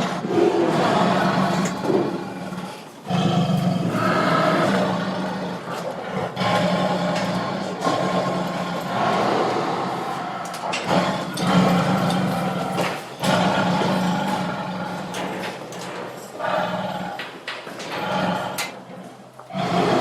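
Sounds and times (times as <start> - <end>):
tiger roaring and growling: 0.0 - 20.0.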